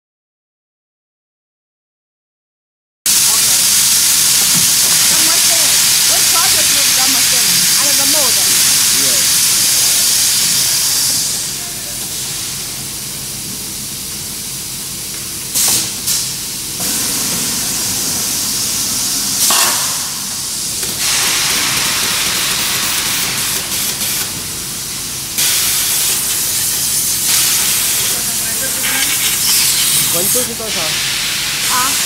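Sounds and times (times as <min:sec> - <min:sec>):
machine hissing: 0:03.1 - 0:14.0, 0:15.4 - 0:32.0.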